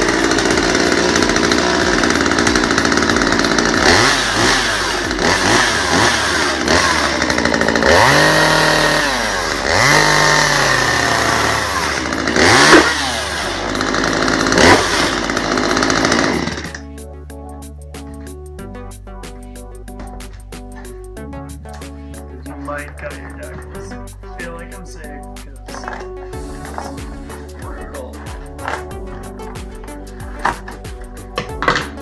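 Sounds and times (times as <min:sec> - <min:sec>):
chainsaw revving: 0:00.0 - 0:17.0, 0:18.0 - 0:32.0.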